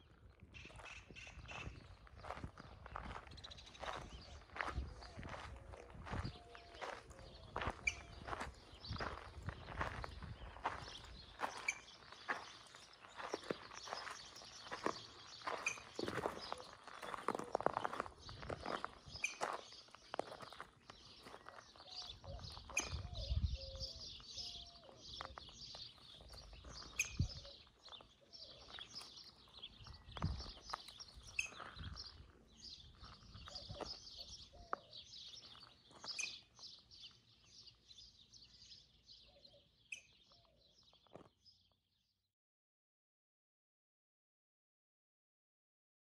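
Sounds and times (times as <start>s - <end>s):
small birds chirping: 0.0s - 41.9s
footsteps on gravel: 0.6s - 23.4s, 24.0s - 37.9s, 40.4s - 41.4s.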